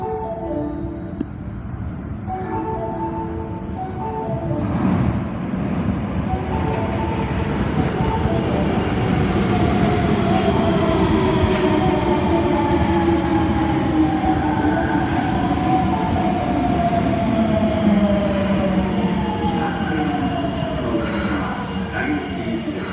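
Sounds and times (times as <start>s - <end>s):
subway train rumbling: 0.0s - 22.9s.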